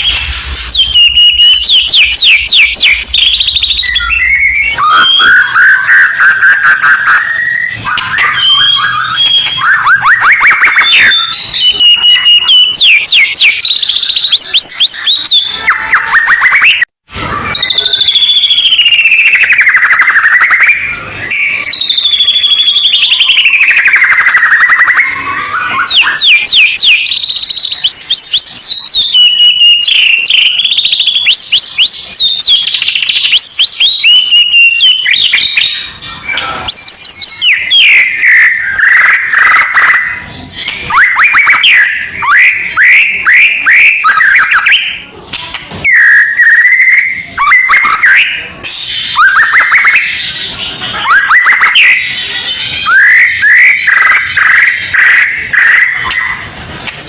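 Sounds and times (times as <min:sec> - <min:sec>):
songbird singing trills and whistles: 0:00.0 - 0:16.9, 0:17.5 - 0:56.5.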